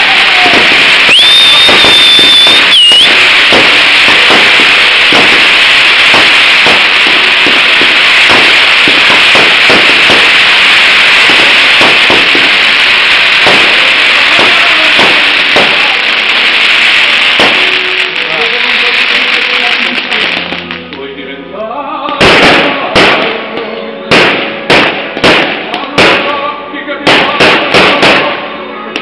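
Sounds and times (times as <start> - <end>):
fireworks crackling and banging: 0.0 - 21.2, 22.0 - 29.0.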